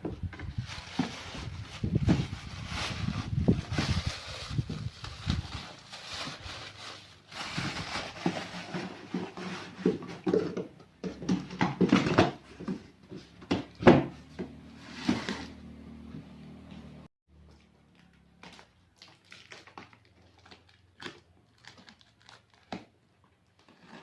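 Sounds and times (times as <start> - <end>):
packaging rustling and scraping: 0.2 - 13.6, 14.7 - 15.6, 17.9 - 24.0.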